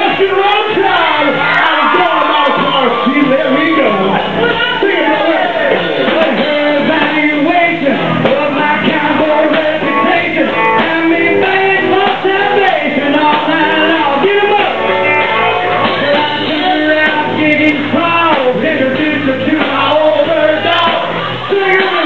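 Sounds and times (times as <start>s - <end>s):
country-rock band playing: 0.0s - 22.0s
person singing: 0.0s - 22.0s.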